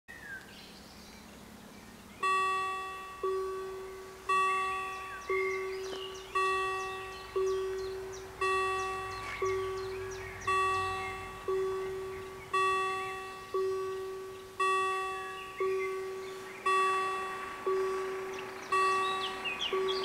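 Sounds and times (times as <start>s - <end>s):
level crossing warning bell: 2.2s - 20.0s.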